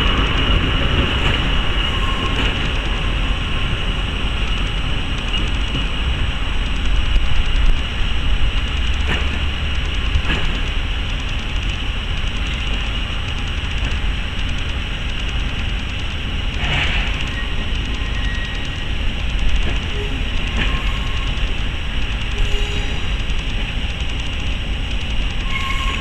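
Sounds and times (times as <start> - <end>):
train rumbling on rails: 0.0 - 26.0
wheel clicks: 4.4 - 26.0.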